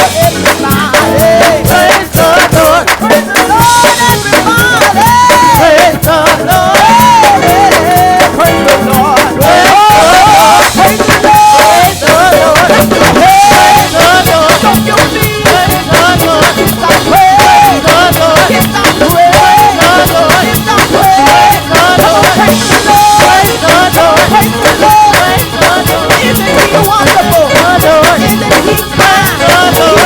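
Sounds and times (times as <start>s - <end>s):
drum kit fast beat: 0.0s - 30.0s
gospel band playing: 0.0s - 30.0s.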